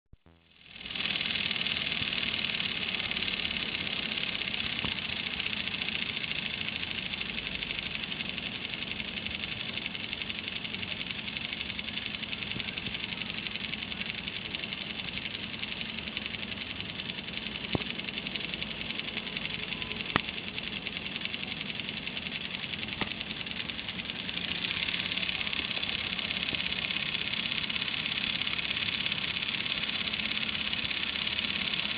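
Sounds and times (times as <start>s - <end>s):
sharp clicks: 0.2s - 31.9s
toy motor whirring: 0.3s - 31.9s.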